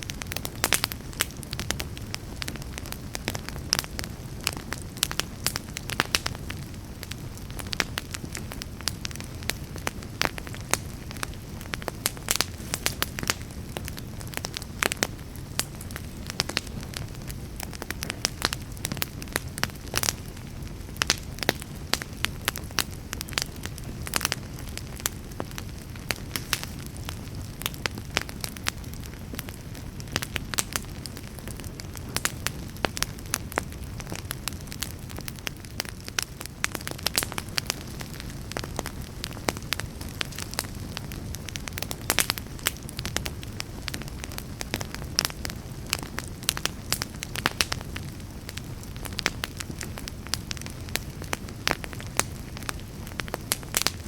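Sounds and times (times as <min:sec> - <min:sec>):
fire crackling and popping: 0:00.0 - 0:54.0
low rush of flames: 0:00.0 - 0:54.0.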